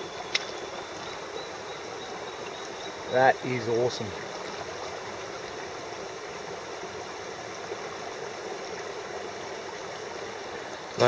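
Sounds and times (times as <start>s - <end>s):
stream running: 0.0s - 11.0s.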